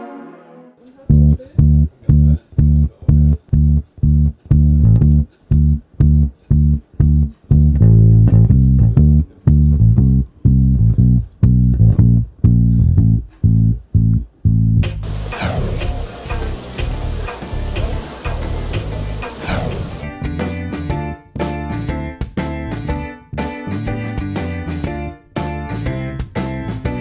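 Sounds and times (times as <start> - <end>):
plucked bass guitar music: 1.1 - 27.0.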